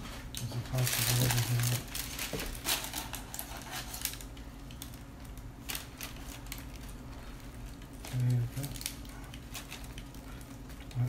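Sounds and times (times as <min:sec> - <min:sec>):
parchment paper rustling: 0:00.0 - 0:11.0.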